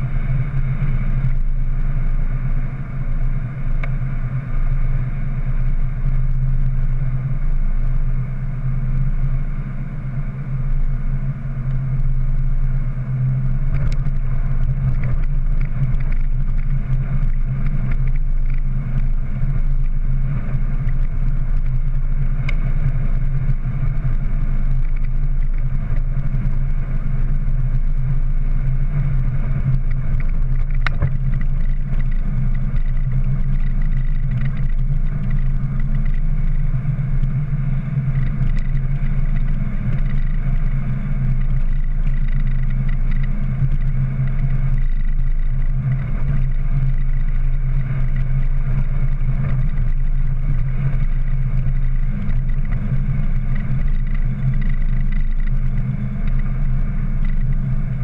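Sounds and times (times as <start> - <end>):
pickup engine hum from inside: 0.0 - 58.0
road noise: 0.0 - 58.0.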